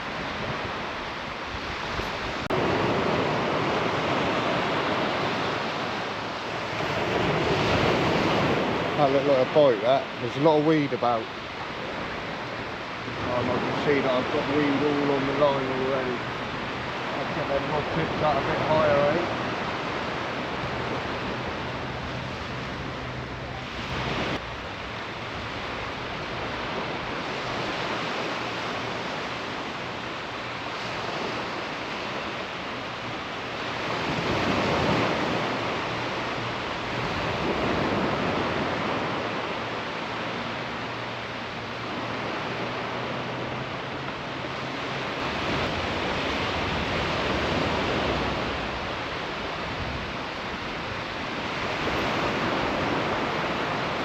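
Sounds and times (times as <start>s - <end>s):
surf breaking on sandy beach: 0.0s - 54.0s
wind buffeting microphone: 0.0s - 54.0s.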